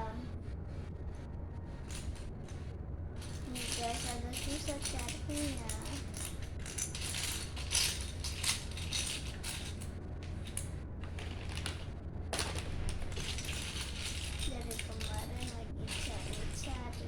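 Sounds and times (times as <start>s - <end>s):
steady low hum: 0.0s - 17.0s
plastic bricks clicking and rattling: 3.2s - 17.0s.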